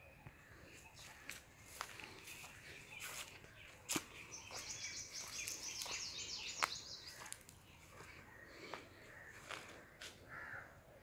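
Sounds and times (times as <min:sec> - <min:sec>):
songbird twittering warble: 0:00.0 - 0:10.0.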